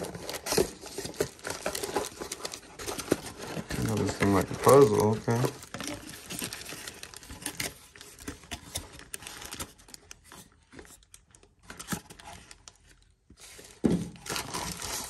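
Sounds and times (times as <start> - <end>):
tissue paper crinkling: 0.0 - 15.0.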